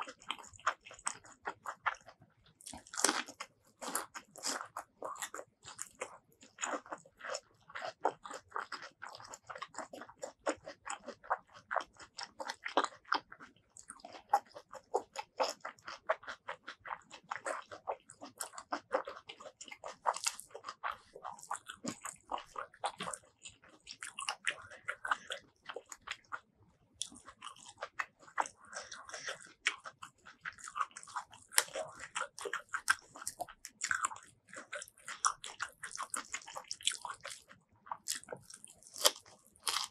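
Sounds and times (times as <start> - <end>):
chewing crunches: 0.0 - 39.9.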